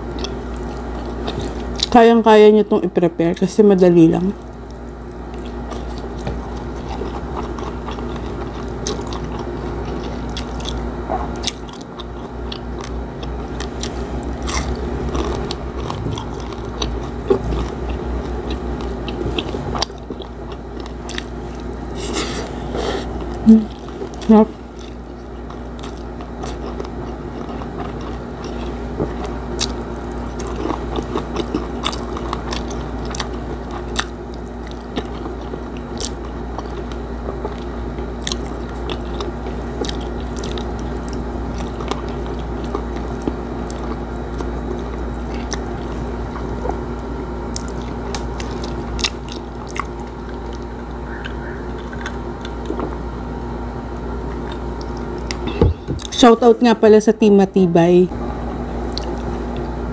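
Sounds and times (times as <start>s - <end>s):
chewing and crunching food: 0.0s - 2.4s, 4.1s - 56.4s, 58.4s - 59.9s
low hum: 0.0s - 59.9s.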